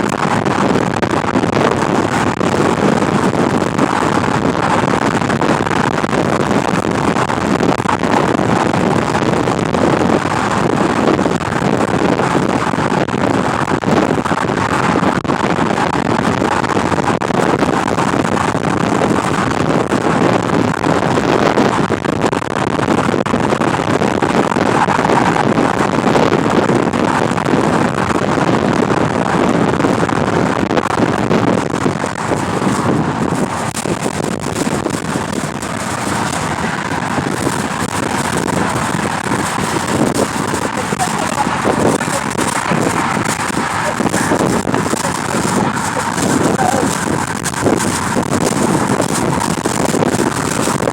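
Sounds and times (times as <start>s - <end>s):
wind noise on microphone: 0.0s - 50.9s.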